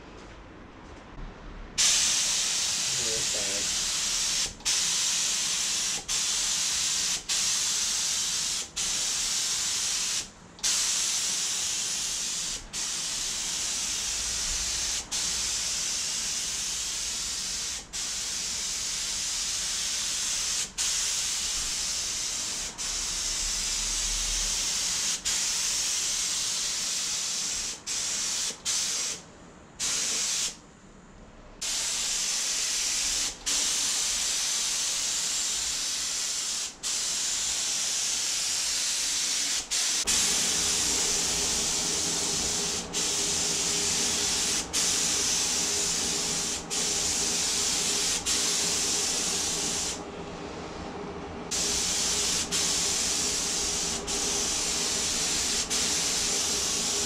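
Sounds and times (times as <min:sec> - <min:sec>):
paint spray gun hissing: 0:01.8 - 0:29.2, 0:29.8 - 0:30.6, 0:31.6 - 0:50.0, 0:51.5 - 0:57.0.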